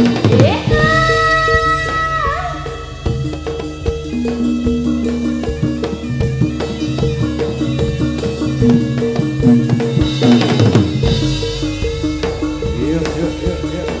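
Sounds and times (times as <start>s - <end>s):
gamelan metal-keyed melody: 0.0s - 14.0s
steady drum beat: 0.0s - 14.0s.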